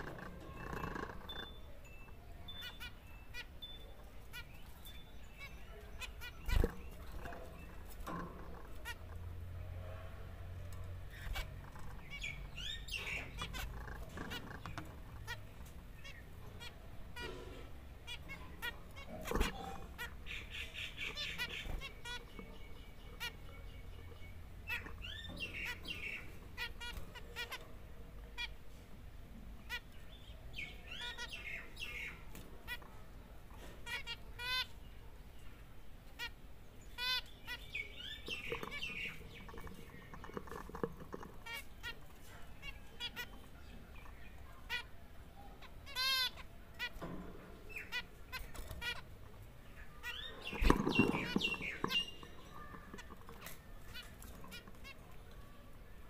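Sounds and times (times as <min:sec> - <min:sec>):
finches beeping calls: 0:00.0 - 0:09.4, 0:11.1 - 0:28.6, 0:29.6 - 0:33.0, 0:33.8 - 0:34.9, 0:36.0 - 0:55.6.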